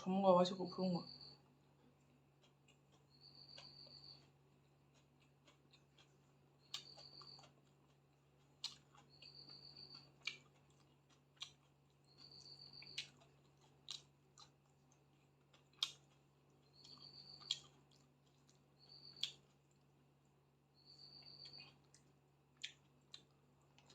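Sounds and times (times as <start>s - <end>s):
person chewing food: 1.1s - 23.9s
mouth clicks and crunches: 1.8s - 19.9s, 21.2s - 23.9s.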